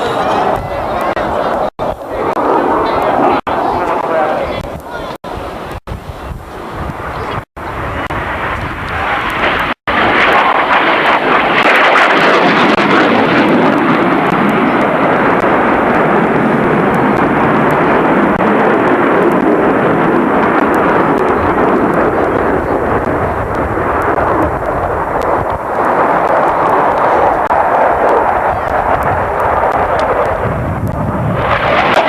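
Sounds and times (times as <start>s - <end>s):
aircraft engine roar: 0.0s - 32.0s.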